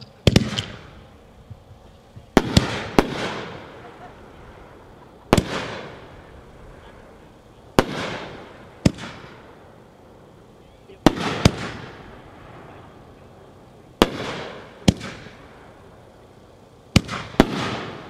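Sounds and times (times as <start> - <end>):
fireworks rumble: 0.0 - 18.0
fireworks bangs: 0.2 - 16.1, 16.9 - 18.0.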